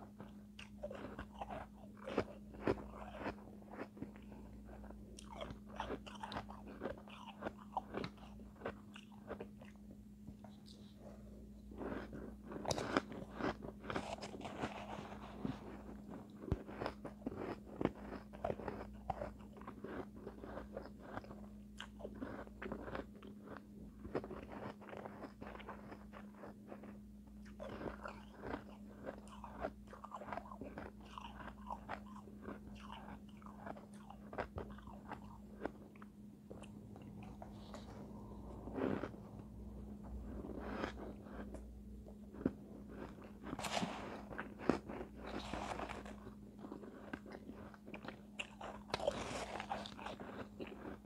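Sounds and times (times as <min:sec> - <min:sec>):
ice crunching while chewed: 0:00.0 - 0:51.0.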